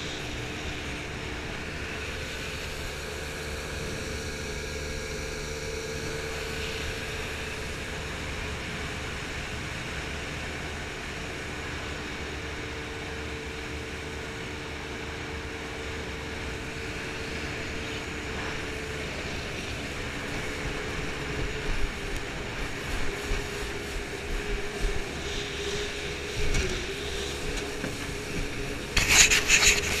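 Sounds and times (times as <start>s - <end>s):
jet boat engine drone: 0.0s - 30.0s.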